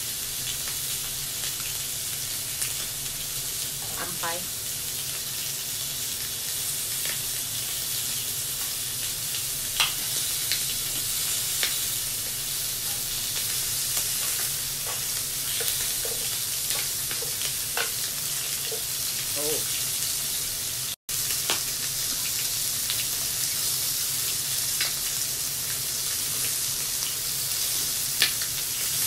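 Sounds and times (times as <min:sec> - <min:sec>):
meat sizzling on grill: 0:00.0 - 0:29.0.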